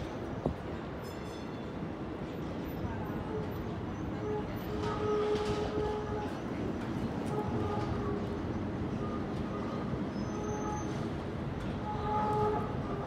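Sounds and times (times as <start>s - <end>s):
streetcar pitched whine: 0.0s - 13.0s
streetcar rumbling on rails: 0.0s - 13.0s.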